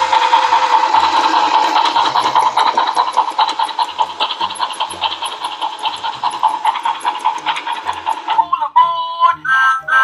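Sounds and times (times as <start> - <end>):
toy train steam chugging effect: 0.0 - 10.0.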